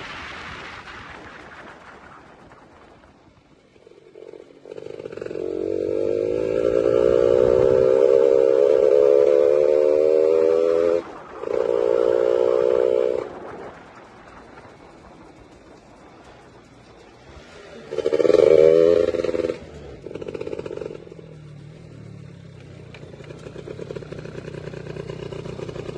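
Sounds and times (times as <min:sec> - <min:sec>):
motorcycle engine at high revs: 0:03.7 - 0:25.9.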